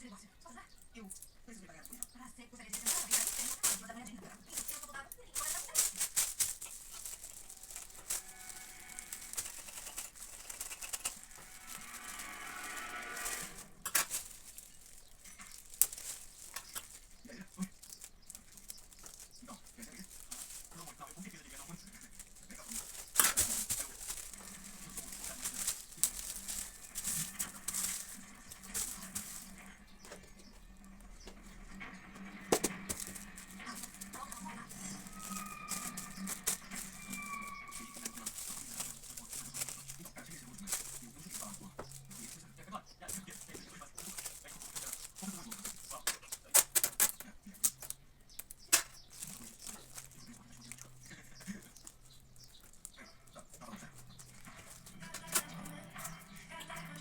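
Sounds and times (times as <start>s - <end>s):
rustling of craft materials: 0.0s - 57.0s
rattling and clicking: 1.8s - 57.0s.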